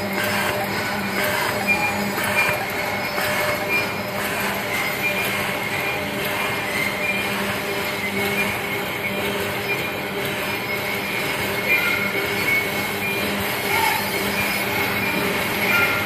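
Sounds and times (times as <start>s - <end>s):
packing machine humming: 0.0s - 16.0s.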